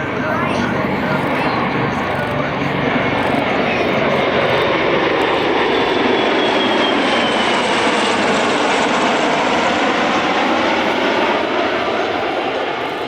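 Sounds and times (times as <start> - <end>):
tiltrotor aircraft engines rushing: 0.0 - 13.0.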